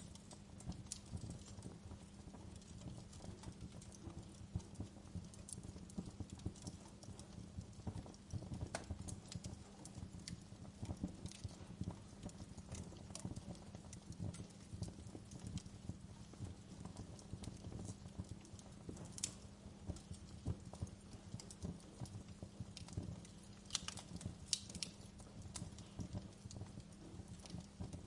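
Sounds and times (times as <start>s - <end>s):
burning wood crackling: 0.0s - 28.0s.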